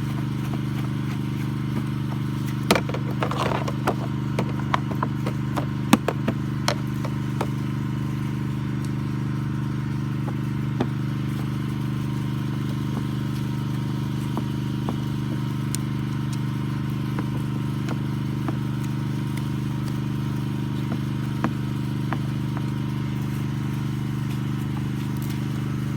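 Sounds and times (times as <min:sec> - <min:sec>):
scooter engine idling: 0:00.0 - 0:25.9.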